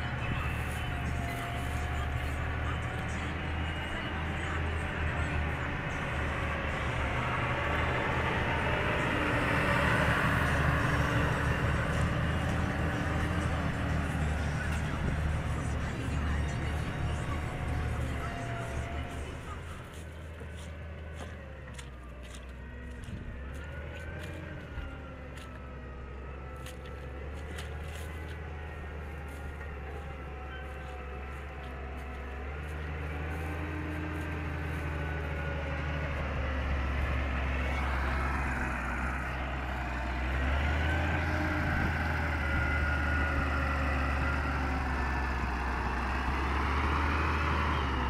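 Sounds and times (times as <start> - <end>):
tractor diesel engine rumbling: 0.0 - 48.0.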